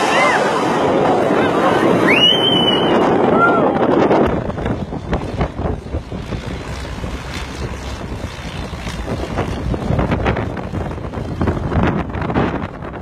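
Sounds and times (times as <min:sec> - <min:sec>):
propeller plane engine droning: 0:00.0 - 0:13.0
wind buffeting microphone: 0:00.0 - 0:13.0.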